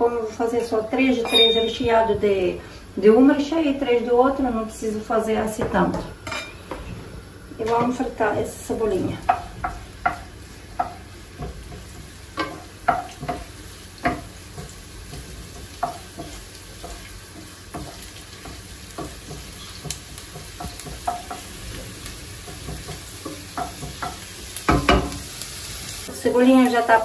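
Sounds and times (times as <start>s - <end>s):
onion sizzling in frying pan: 0.0s - 27.0s.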